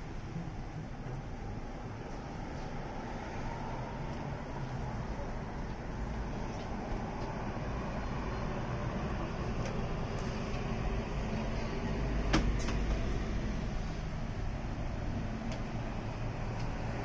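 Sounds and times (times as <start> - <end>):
background rumble and hiss: 0.0 - 17.0.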